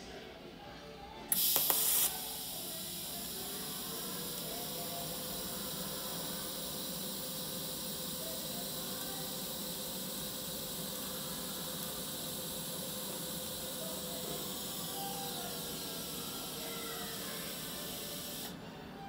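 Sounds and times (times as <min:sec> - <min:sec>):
welding arc hiss: 0:01.3 - 0:18.6.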